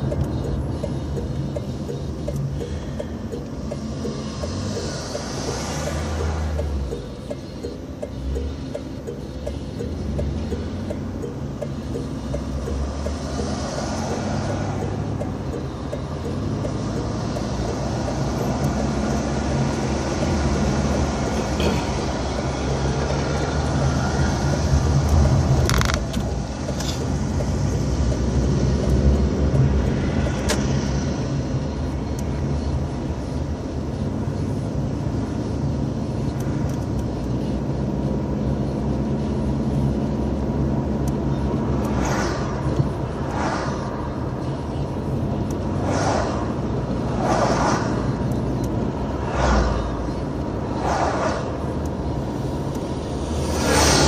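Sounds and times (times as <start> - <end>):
car engine hum: 0.0 - 54.0
road noise: 0.0 - 54.0.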